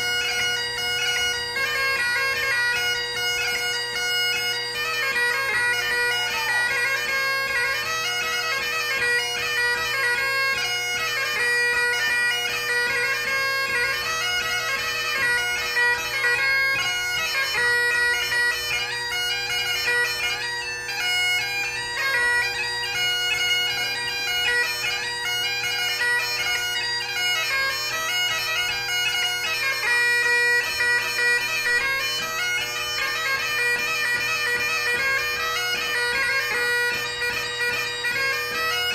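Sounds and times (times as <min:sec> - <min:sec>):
bagpipe playing: 0:00.0 - 0:38.9.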